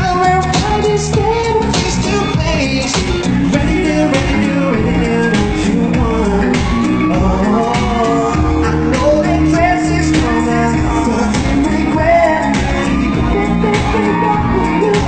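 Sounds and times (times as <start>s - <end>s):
person singing into microphone: 0.0s - 15.0s
pop instrumental with steady beat: 0.0s - 15.0s.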